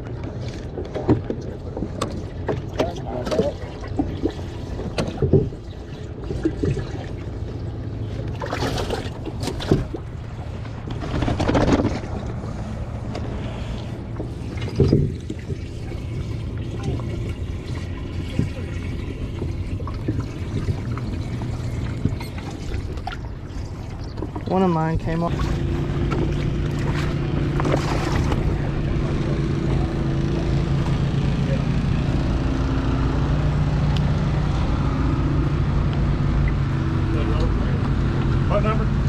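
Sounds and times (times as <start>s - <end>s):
boat motor idling: 0.0s - 39.0s.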